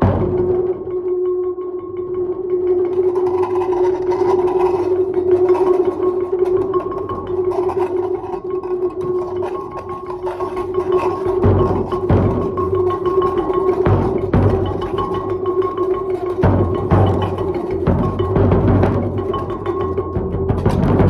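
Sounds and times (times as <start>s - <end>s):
sounding stone ringing: 2.8s - 21.0s.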